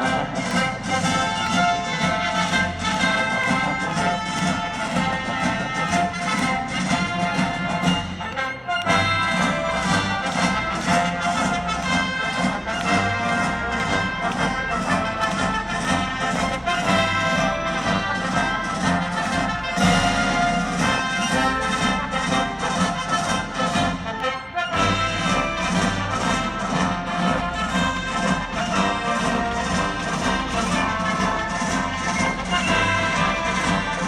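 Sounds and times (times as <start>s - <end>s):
orchestra with prominent brass: 0.0s - 34.0s
steady beat: 0.0s - 34.0s.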